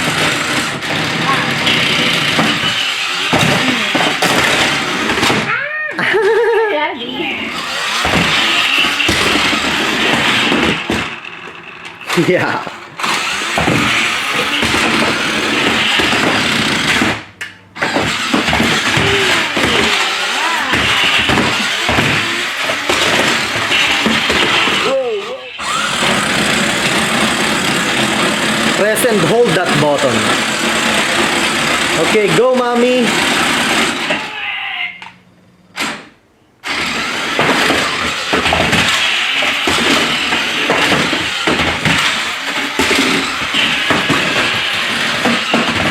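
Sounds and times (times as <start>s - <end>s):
toy car motor whirring: 0.0s - 35.1s, 36.6s - 45.9s.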